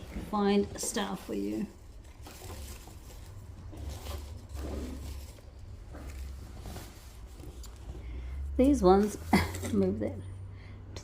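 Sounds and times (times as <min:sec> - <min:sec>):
rustling of woven materials: 0:00.0 - 0:10.5.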